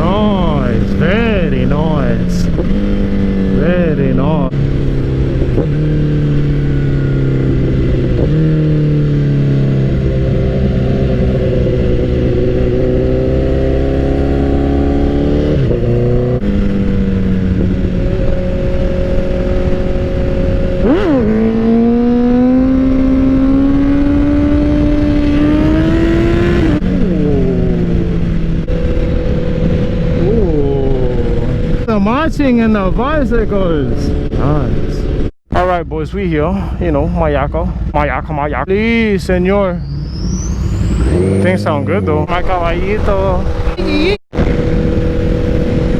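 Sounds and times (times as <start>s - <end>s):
motorcycle engine revving: 0.0s - 35.7s, 37.8s - 45.9s.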